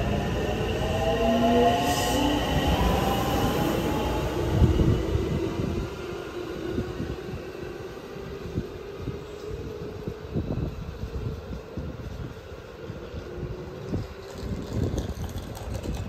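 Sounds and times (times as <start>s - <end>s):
rumble of train wheels: 0.0s - 16.0s.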